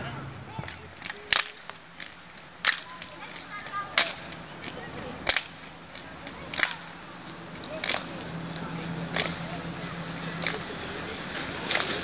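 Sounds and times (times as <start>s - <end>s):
group clapping in unison: 0.7s - 10.8s, 11.4s - 12.0s.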